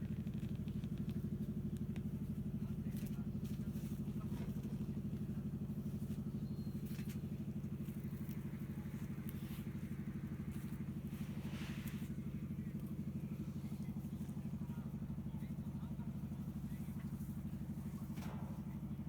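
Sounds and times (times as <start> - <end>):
low pulsing motor hum: 0.0 - 19.0.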